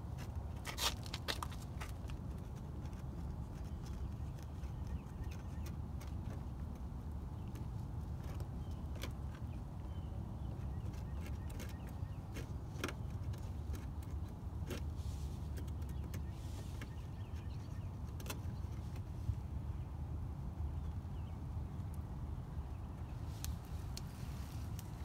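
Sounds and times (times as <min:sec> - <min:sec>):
light clicks and crackles: 0:00.2 - 0:19.1, 0:22.9 - 0:25.0.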